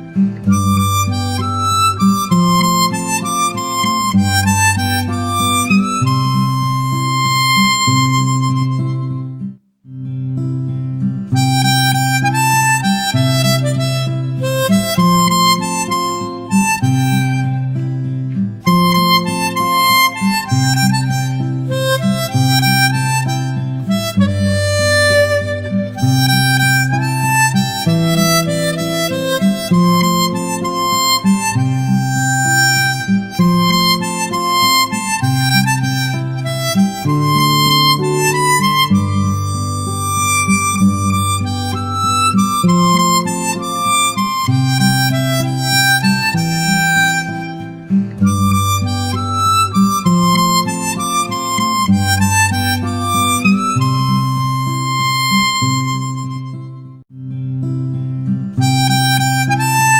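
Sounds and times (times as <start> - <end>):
instrumental background music: 0.0 - 57.4.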